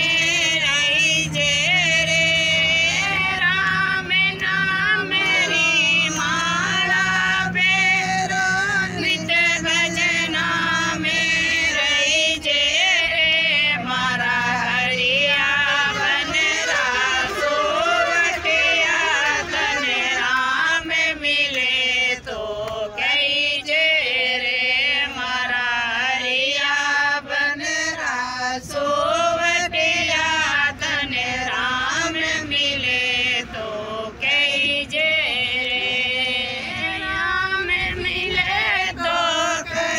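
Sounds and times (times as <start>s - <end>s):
woman singing: 0.0s - 39.9s.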